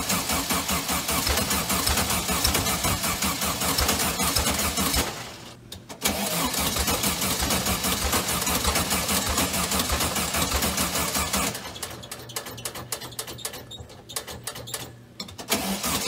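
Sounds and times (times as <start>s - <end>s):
car engine cranking: 0.0s - 13.5s, 15.3s - 16.0s.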